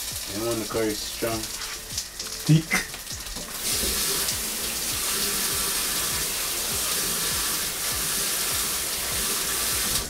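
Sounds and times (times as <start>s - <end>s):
tap running into sink: 1.4s - 10.0s.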